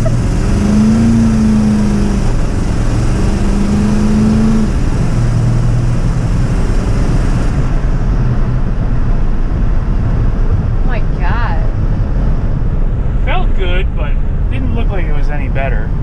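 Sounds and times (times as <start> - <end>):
truck engine at full throttle: 0.0 - 16.0.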